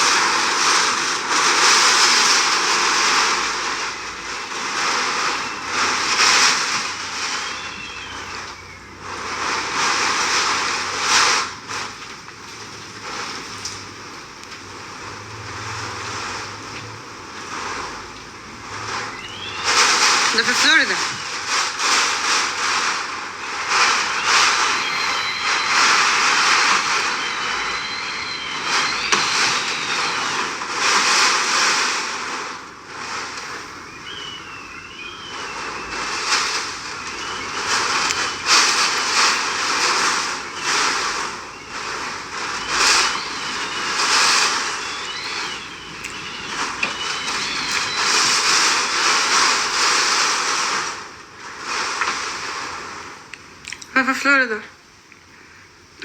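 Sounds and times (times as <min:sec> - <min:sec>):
wind gusting: 0:00.0 - 0:53.6
rain: 0:00.0 - 0:56.0.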